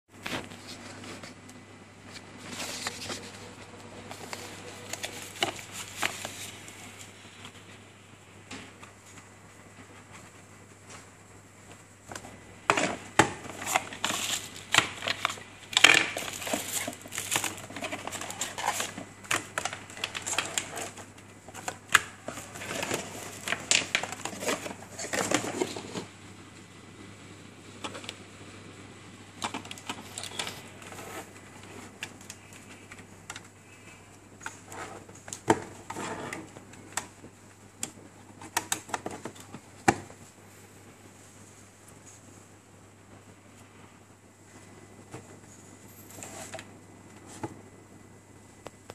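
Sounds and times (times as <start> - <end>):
cardboard and packaging rustling: 0.1 - 7.9, 8.5 - 26.2, 29.3 - 42.5, 44.4 - 47.6.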